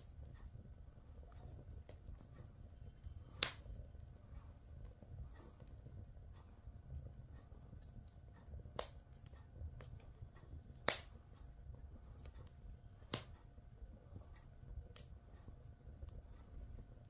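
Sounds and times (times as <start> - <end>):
wood logs crackling in fireplace: 0.0 - 17.0.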